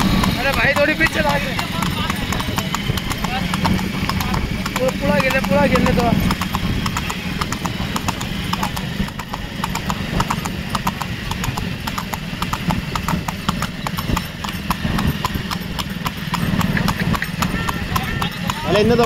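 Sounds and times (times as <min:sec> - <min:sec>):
horse hooves trotting on asphalt: 0:00.0 - 0:19.0.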